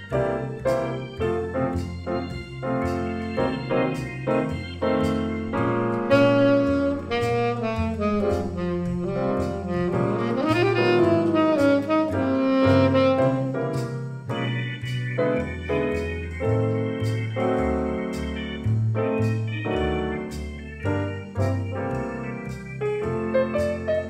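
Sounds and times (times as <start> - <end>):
grand piano chords: 0.0 - 24.0
jazz saxophone melody: 0.0 - 24.0
low bass notes: 0.0 - 24.0.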